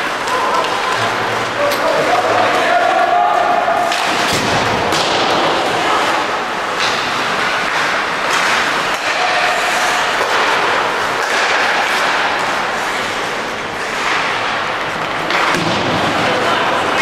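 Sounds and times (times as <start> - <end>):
rink crowd din: 0.0 - 17.0.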